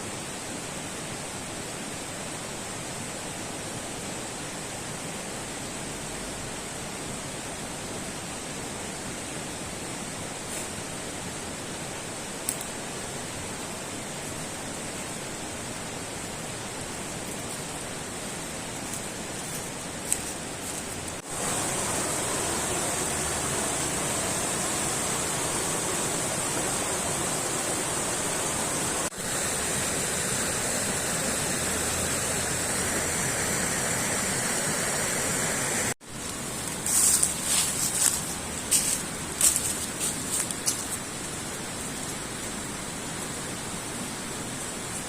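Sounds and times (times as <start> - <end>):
flowing water rushing: 0.1 - 45.0.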